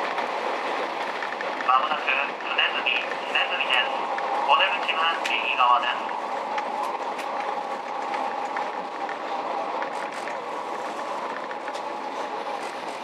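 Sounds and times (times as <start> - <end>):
train running rumble: 0.0 - 13.0
wheels clicking on track: 0.0 - 13.0.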